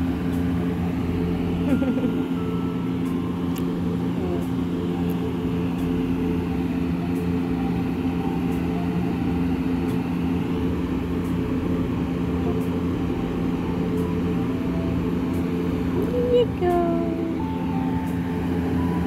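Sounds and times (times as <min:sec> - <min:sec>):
mechanical hum with low rumble: 0:00.0 - 0:19.0.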